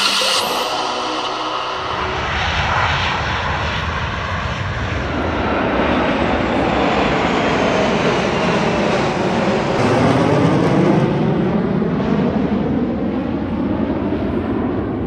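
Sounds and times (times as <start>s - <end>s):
jet noise: 0.0s - 14.3s.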